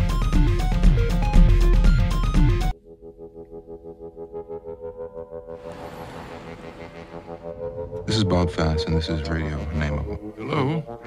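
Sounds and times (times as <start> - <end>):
synthesizer music: 0.4 - 11.0.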